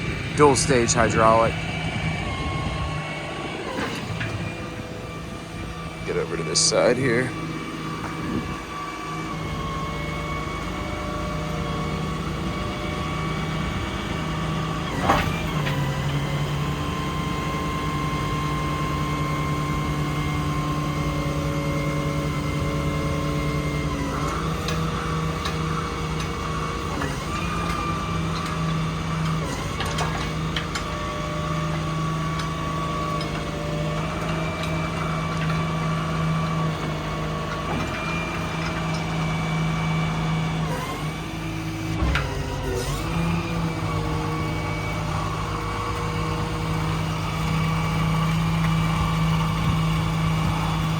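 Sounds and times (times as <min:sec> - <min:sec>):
diesel engine running: 0:00.0 - 0:50.9
hydraulic whine: 0:00.0 - 0:50.9.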